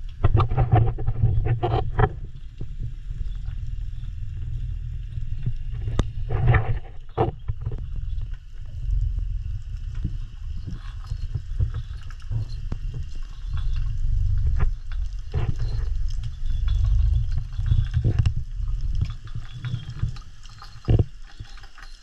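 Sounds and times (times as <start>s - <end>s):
muffled underwater rumble: 0.0s - 22.0s.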